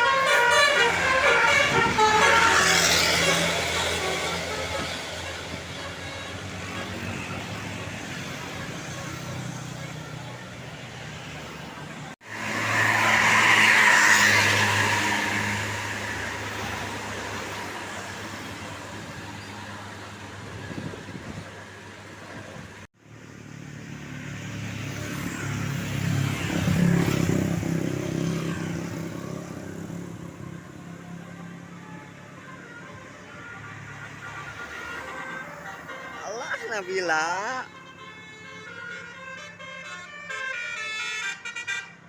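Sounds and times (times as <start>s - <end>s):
buses driving past: 0.0s - 42.0s.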